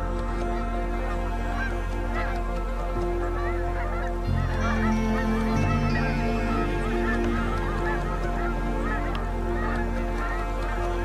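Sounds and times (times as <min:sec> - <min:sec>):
geese honking: 0:00.0 - 0:11.0
held music chords: 0:00.0 - 0:11.0.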